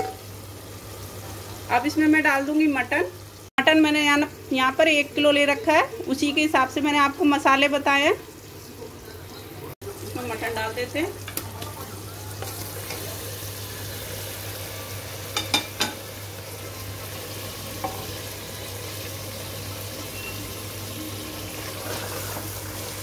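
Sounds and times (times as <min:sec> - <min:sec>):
meat sizzling in a pot: 0:00.0 - 0:23.0.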